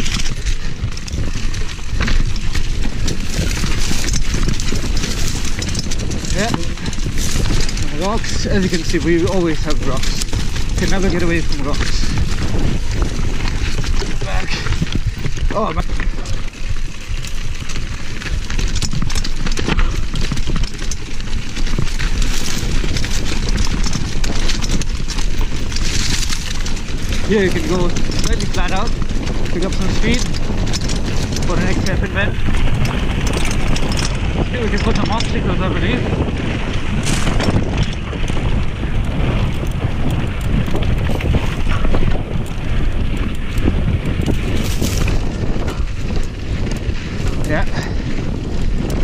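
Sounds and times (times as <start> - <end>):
bike clattering and rattling: 0.0 - 49.0
tyres crunching over stones: 0.0 - 49.0
wind buffeting microphone: 0.0 - 49.0.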